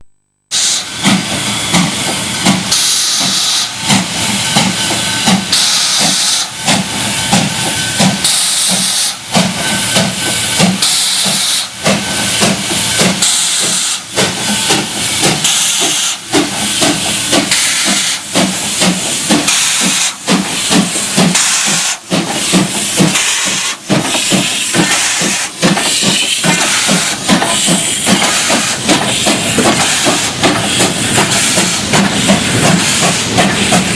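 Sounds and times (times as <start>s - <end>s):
loud steam hiss: 0.5s - 33.9s
steam locomotive exhaust beating: 0.5s - 33.9s.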